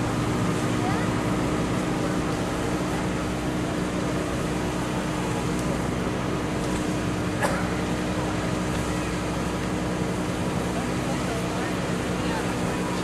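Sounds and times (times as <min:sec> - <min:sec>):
constant rushing noise: 0:00.0 - 0:13.0.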